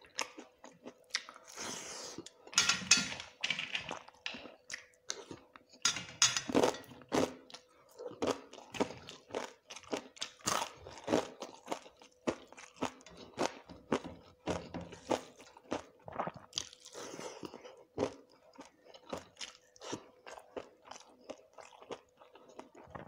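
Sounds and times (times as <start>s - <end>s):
person chewing crunchy food: 0.0s - 2.6s, 6.5s - 23.0s.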